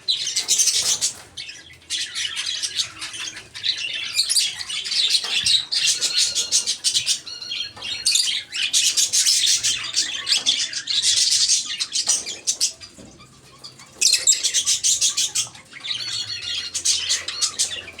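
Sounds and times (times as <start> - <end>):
parakeets chattering and squawking: 0.0 - 18.0.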